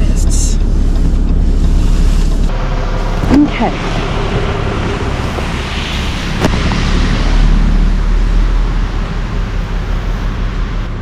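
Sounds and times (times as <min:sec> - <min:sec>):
vehicle and road noise: 0:00.0 - 0:11.0.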